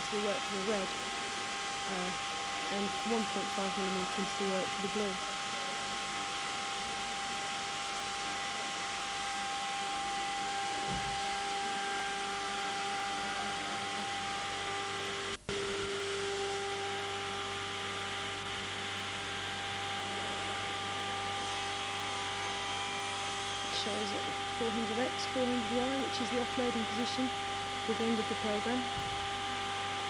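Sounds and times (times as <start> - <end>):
cnc router hissing and whining: 0.0 - 30.0.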